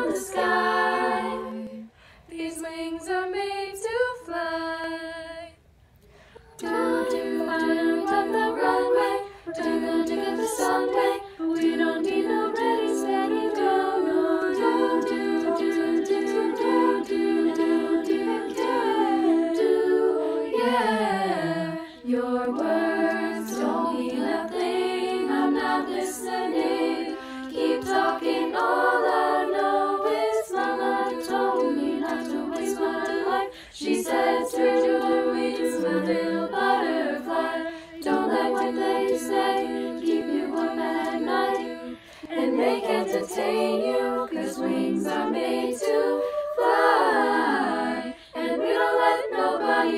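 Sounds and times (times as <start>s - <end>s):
women singing in harmony: 0.0s - 5.6s, 6.3s - 49.9s.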